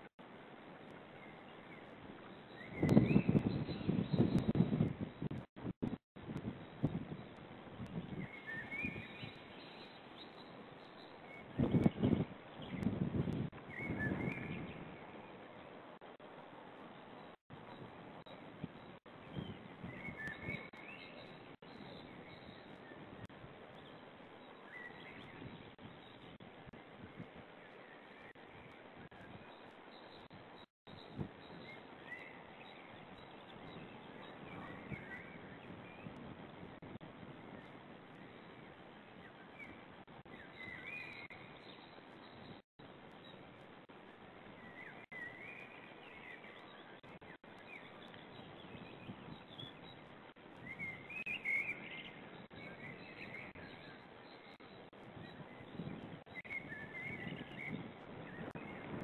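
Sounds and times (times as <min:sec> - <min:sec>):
steady outdoor hiss: 0:00.0 - 0:59.0
faint bird chirps: 0:00.8 - 0:05.5, 0:06.4 - 0:15.8, 0:16.9 - 0:43.5, 0:44.4 - 0:59.0.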